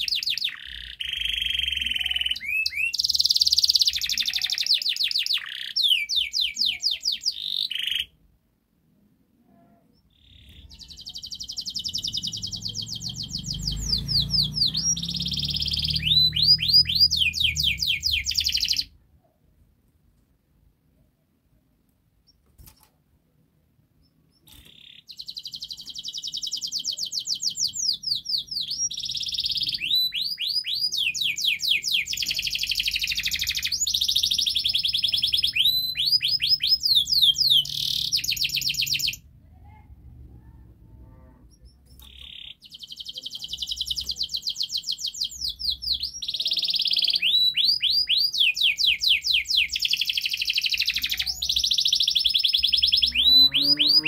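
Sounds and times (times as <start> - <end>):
canary singing trills: 0.0 - 8.2, 9.6 - 19.0, 24.0 - 54.0.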